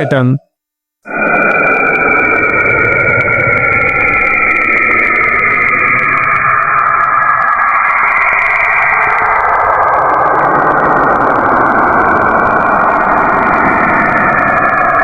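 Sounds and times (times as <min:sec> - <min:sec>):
dense noisy drone: 0:01.0 - 0:15.0.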